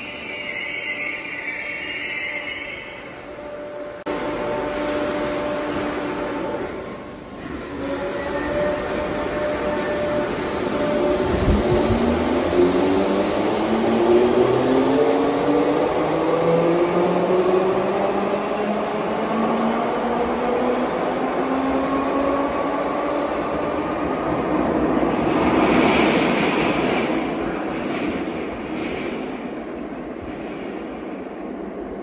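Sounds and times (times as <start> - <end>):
train accelerating: 0.0 - 32.0.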